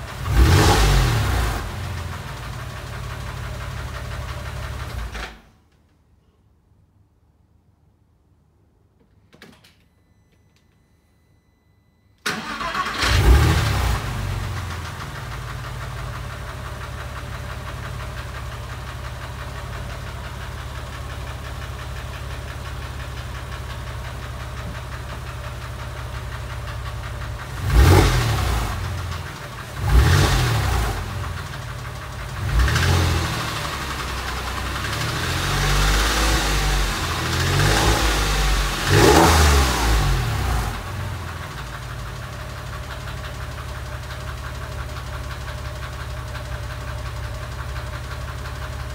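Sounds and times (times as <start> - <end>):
car engine idling and revving: 0.0 - 5.1, 12.3 - 48.9.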